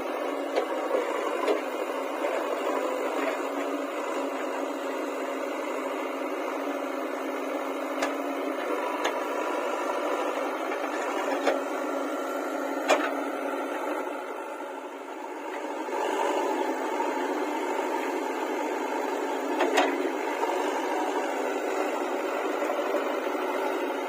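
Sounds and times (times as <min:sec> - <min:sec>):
backhoe loader running: 0:00.0 - 0:24.0.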